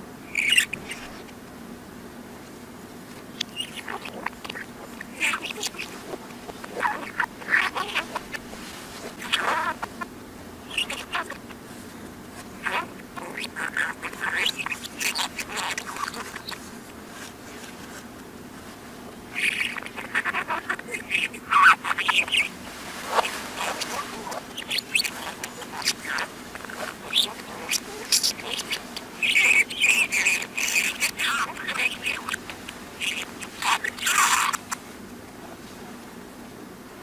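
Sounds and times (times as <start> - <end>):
faint steady hum: 0.0 - 37.0
reversed budgerigar chirps: 0.2 - 1.3, 3.2 - 11.6, 12.3 - 17.7, 19.3 - 34.9.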